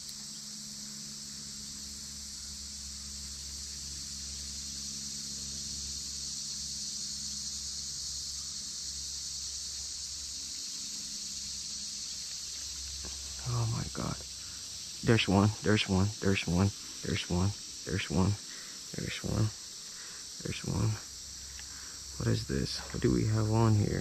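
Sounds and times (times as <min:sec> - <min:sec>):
faint low hum: 0:00.0 - 0:24.0
insect chorus drone: 0:00.0 - 0:24.0.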